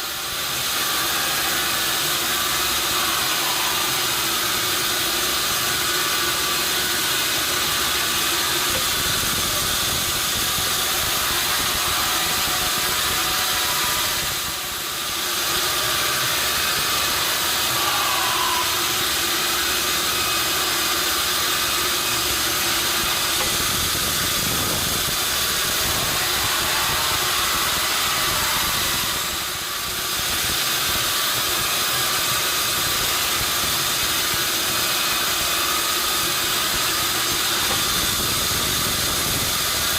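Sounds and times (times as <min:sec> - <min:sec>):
constant machine hum: 0:00.0 - 0:39.9
sawmill machinery hiss: 0:00.0 - 0:39.9.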